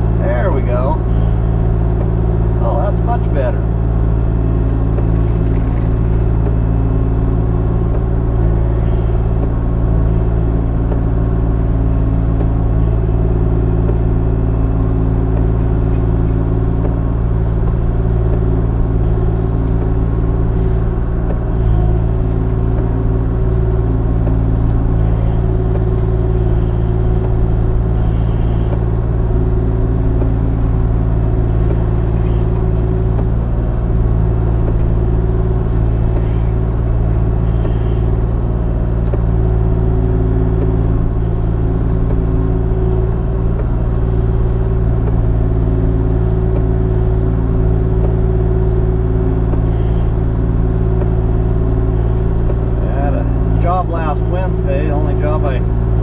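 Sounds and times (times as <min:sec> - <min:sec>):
diesel excavator engine under load: 0:00.0 - 0:56.0.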